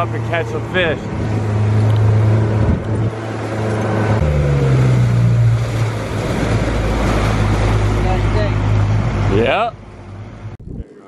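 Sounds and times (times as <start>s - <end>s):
outboard motor running: 0.0s - 10.6s
water splashing past hull: 0.0s - 10.6s.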